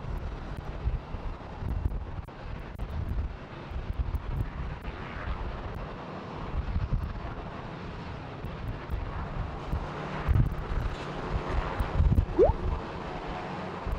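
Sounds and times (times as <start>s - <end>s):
wind rumble on microphone: 0.0s - 12.8s.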